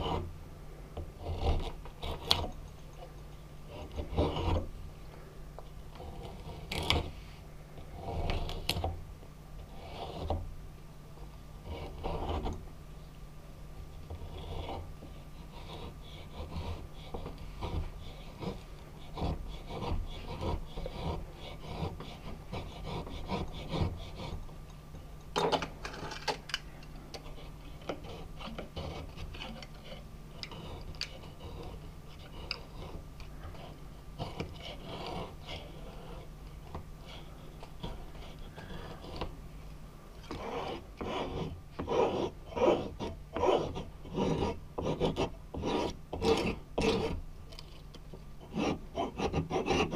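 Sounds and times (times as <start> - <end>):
knife scraping wood: 0.0 - 0.3, 1.0 - 4.7, 5.9 - 9.0, 9.6 - 10.4, 11.6 - 12.6, 14.1 - 24.5, 27.1 - 39.3, 40.2 - 49.9.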